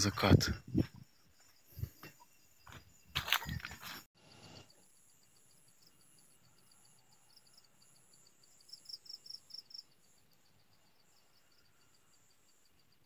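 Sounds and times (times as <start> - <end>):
high insect trill: 0.0 - 13.0
insects chirping: 0.0 - 13.0.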